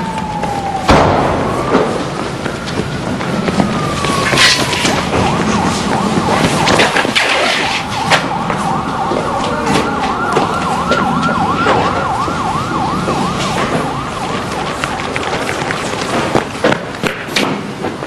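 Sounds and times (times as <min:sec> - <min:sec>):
police siren yelping: 0:00.0 - 0:16.5.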